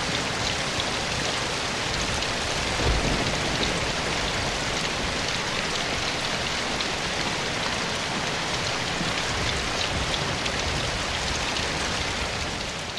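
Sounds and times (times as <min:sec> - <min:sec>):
rain falling in a forest: 0:00.0 - 0:12.9.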